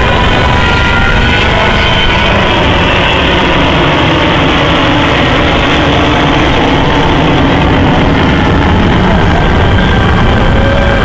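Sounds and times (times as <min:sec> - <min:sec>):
loud jet noise: 0:00.0 - 0:11.0.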